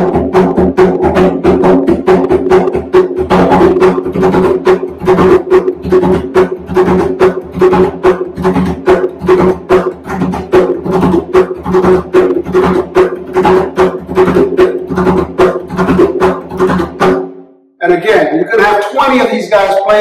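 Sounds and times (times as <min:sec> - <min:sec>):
hand drum slaps and open tones: 0:00.0 - 0:17.3.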